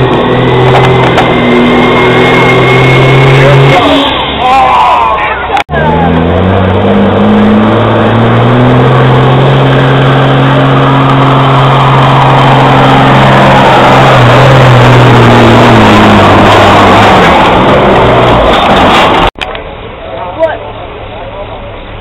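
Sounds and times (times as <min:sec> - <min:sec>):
diesel truck engine revving: 0:00.0 - 0:19.4.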